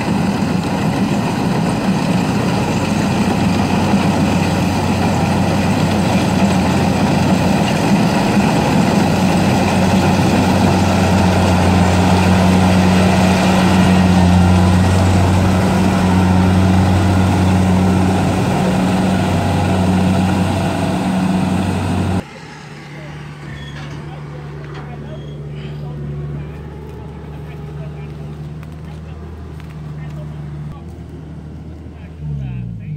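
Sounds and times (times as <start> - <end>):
combine harvester engine running: 0.0 - 32.9.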